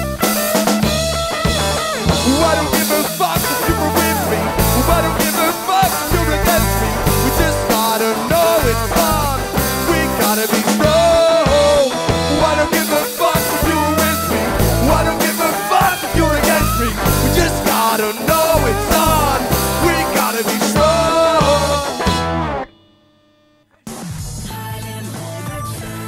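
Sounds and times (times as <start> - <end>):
drum kit beat: 0.0 - 22.6
electric guitar: 0.0 - 22.8
pitch-bending lead line: 0.8 - 22.7.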